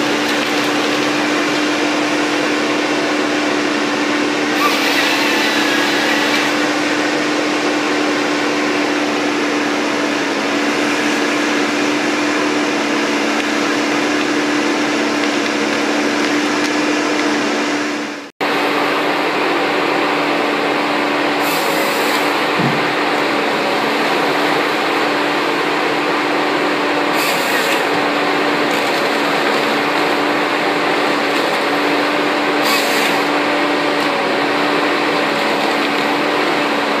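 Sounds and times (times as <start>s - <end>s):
harvester machine drone: 0.0s - 37.0s
machine whine: 0.0s - 37.0s.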